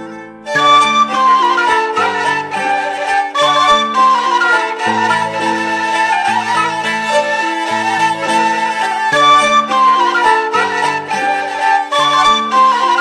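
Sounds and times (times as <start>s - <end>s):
bowed string melody: 0.0s - 13.0s
sustained accompanying notes: 0.0s - 13.0s.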